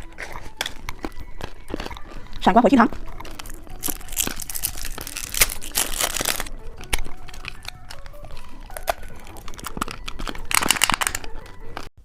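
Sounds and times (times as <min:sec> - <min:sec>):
plastic wrapper crinkling and tearing: 0:00.0 - 0:11.9.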